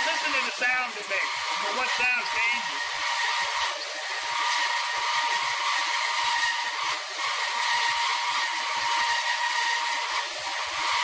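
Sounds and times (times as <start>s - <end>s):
bandsaw cutting steel: 0.0s - 11.0s.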